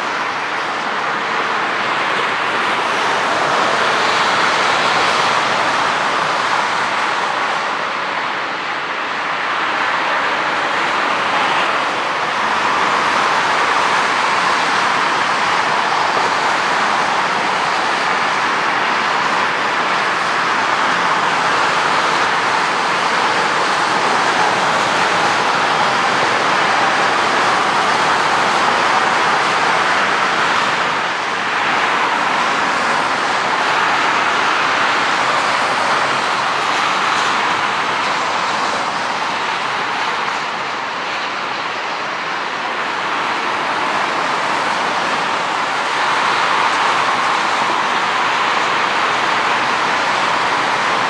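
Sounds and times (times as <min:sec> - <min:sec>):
jet engines rushing: 0:00.0 - 0:51.0.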